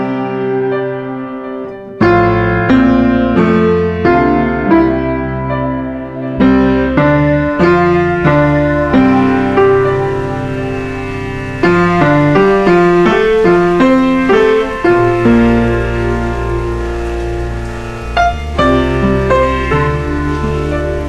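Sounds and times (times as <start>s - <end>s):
deep piano bass notes: 0.0s - 21.0s
piano chords ringing: 0.0s - 21.0s.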